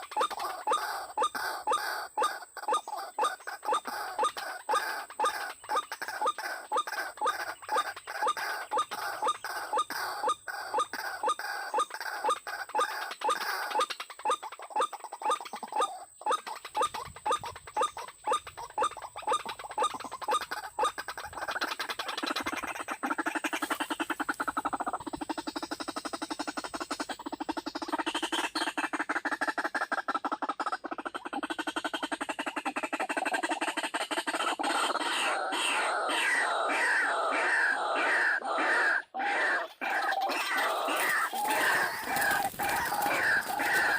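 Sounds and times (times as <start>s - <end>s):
waterhen calling: 0.0s - 26.1s, 26.7s - 43.9s.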